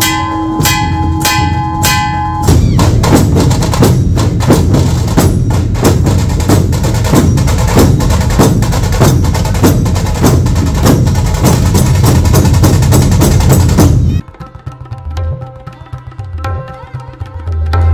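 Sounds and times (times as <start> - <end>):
dhol drums playing together: 0.0 - 17.9.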